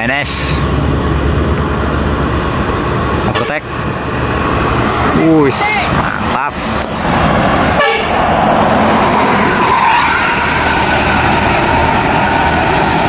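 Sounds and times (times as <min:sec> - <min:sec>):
bus engine running: 0:00.0 - 0:13.0
tyre noise on road: 0:00.0 - 0:13.0.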